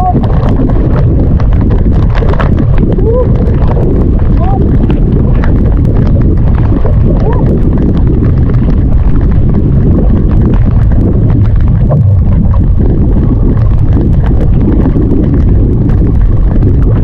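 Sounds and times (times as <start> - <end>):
rain and spray ticking on camera: 0.0 - 17.0
wind buffeting microphone: 0.0 - 17.0.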